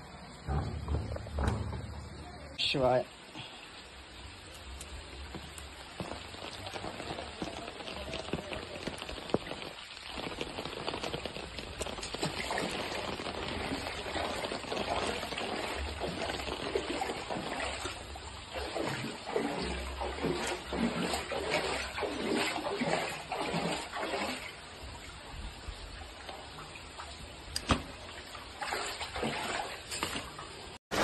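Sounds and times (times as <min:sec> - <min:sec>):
floodwater rushing and sloshing: 0:00.0 - 0:31.0.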